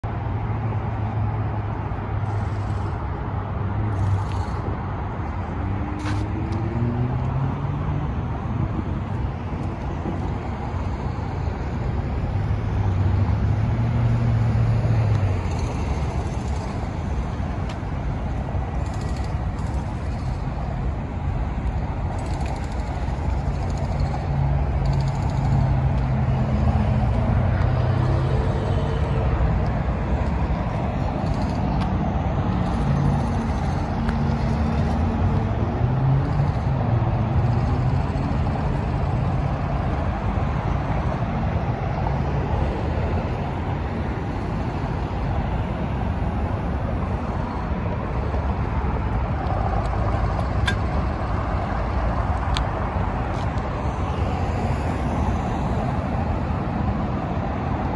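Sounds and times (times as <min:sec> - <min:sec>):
engines droning: 0:00.0 - 0:57.9
road traffic noise: 0:00.0 - 0:57.9.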